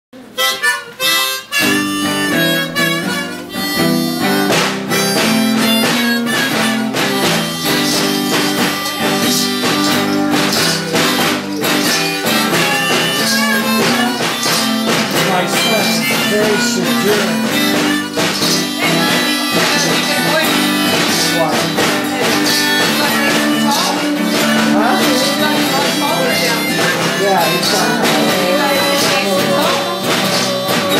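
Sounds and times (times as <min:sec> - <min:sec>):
acoustic guitar strummed: 0:00.2 - 0:30.9
harmonica wailing: 0:00.2 - 0:30.9.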